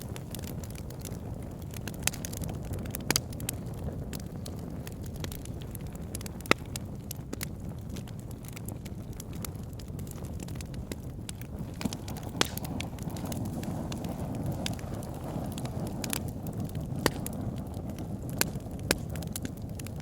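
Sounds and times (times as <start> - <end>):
burning wood crackling and popping: 0.0 - 20.0
campfire flames rushing: 0.0 - 20.0.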